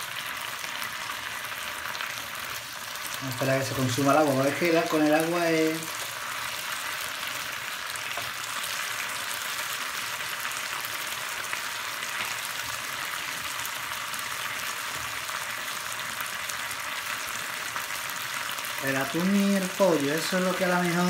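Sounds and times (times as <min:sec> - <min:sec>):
chicken sizzling in a pan: 0:00.0 - 0:21.0.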